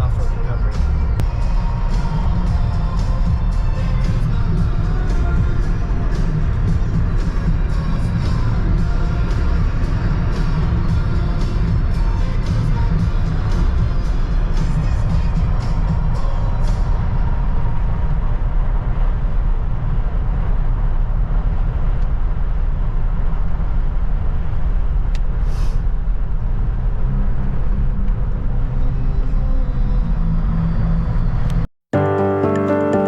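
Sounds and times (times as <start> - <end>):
vehicle road and wind noise: 0.0 - 31.7.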